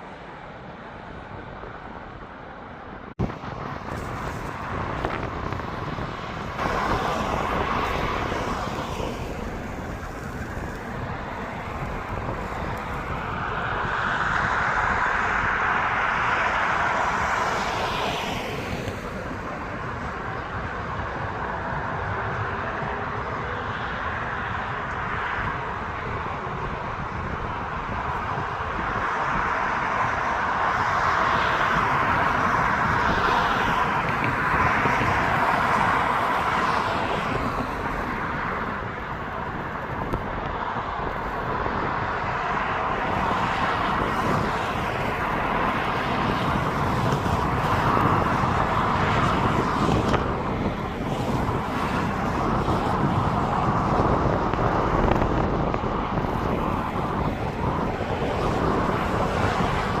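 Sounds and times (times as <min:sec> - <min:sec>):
high wind rushing: 0:00.0 - 1:00.0
passenger train rumbling at speed: 0:00.0 - 1:00.0.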